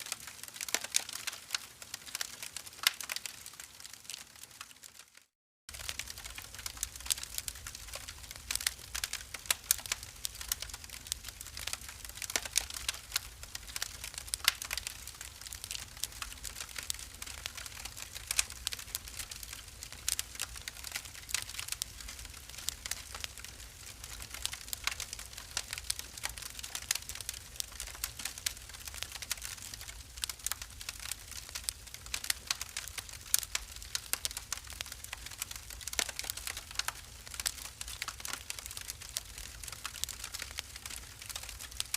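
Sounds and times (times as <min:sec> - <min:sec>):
wood fire crackling and popping: 0:00.0 - 0:41.9
low fire rumble: 0:05.7 - 0:41.9.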